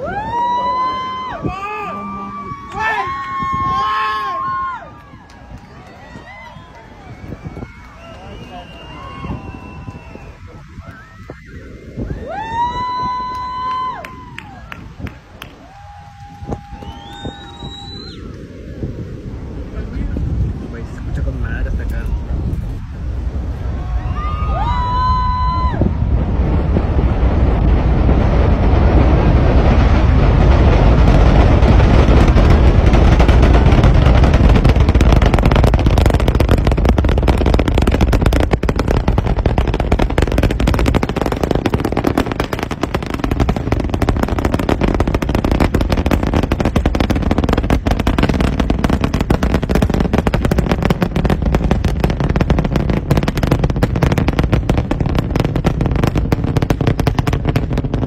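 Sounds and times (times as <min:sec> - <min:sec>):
rocket engine rumble and crackling: 0:00.0 - 0:58.0.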